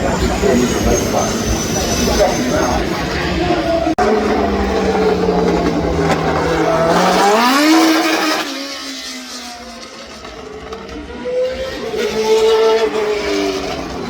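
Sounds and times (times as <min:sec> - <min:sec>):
another car engine: 0:00.0 - 0:14.0
race car engine accelerating: 0:00.0 - 0:14.0.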